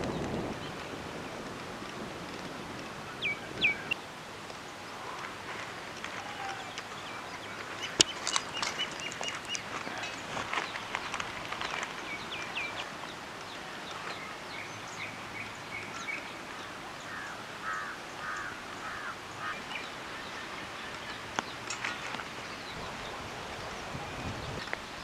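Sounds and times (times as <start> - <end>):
outdoor background hiss: 0.0 - 25.0
birds chirping: 2.6 - 25.0.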